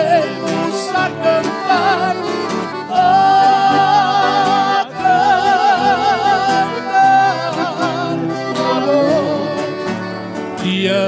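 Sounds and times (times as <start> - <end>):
duo singing in harmony: 0.0 - 11.0.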